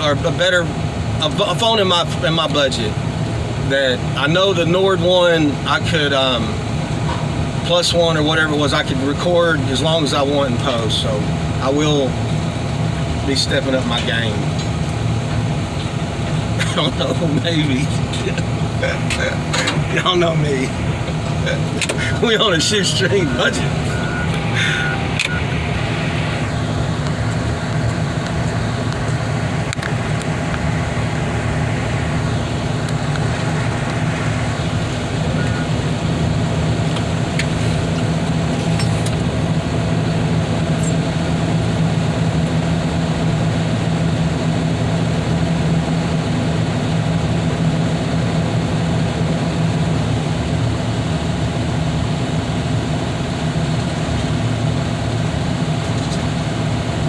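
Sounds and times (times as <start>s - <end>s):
large engine running: 0.0s - 57.0s.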